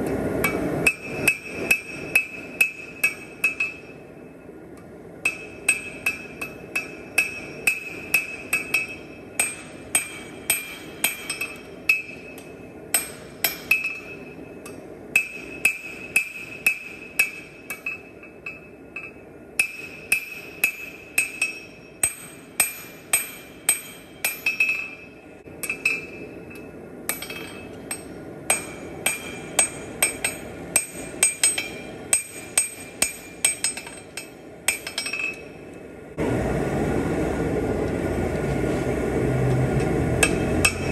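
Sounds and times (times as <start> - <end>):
hammer striking steel on anvil: 0.4 - 4.4, 5.2 - 35.8, 40.2 - 40.9
anvil ringing: 0.5 - 4.4, 5.2 - 35.6, 40.2 - 40.9.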